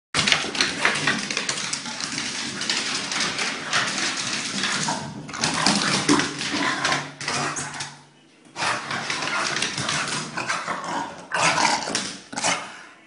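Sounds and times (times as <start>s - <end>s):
puppy claws scraping on wood floor: 0.2s - 7.9s, 8.6s - 12.6s.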